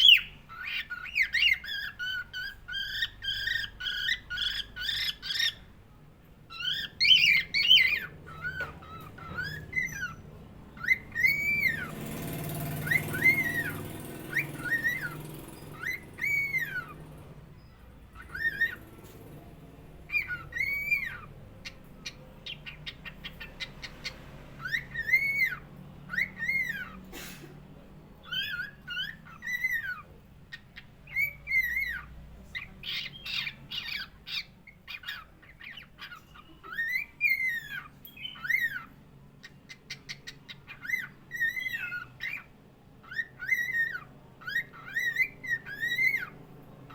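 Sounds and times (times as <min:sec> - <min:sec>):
cockatiel whistling: 0:00.0 - 0:05.6, 0:06.5 - 0:10.2, 0:10.8 - 0:11.9, 0:12.8 - 0:17.1, 0:18.2 - 0:18.9, 0:20.1 - 0:27.0, 0:28.2 - 0:32.1, 0:32.8 - 0:38.9, 0:39.7 - 0:46.9
rapid bird chirps: 0:00.0 - 0:27.2, 0:28.2 - 0:46.9.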